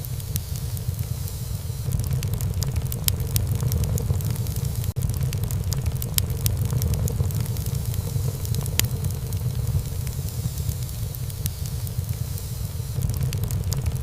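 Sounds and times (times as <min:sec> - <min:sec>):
fireplace fire crackling and popping: 0:00.0 - 0:14.0
low rumble of flames: 0:00.0 - 0:14.0.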